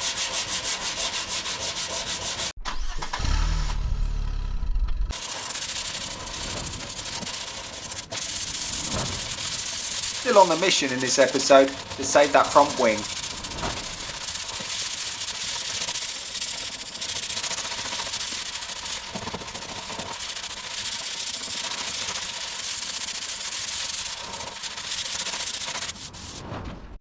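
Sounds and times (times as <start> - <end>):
sanding body filler: 0.0 - 2.6, 5.1 - 26.4.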